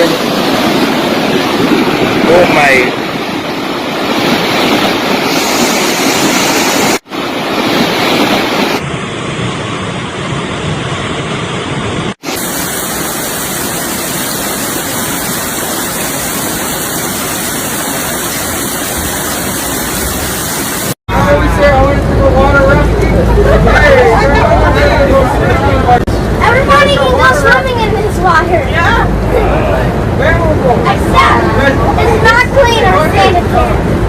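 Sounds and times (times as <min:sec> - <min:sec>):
floodwater rushing: 0:00.0 - 0:34.0.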